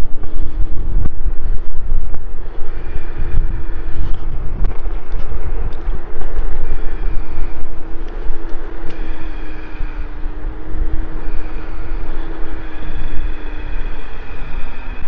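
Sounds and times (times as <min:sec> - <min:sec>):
electric scooter motor whining: 0:00.0 - 0:15.0
wind rumbling on microphone: 0:00.0 - 0:15.0.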